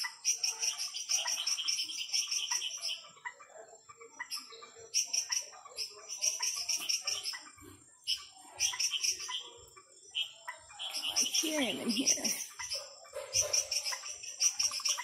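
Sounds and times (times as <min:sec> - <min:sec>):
frogs clicking and chirping: 0:00.0 - 0:15.0.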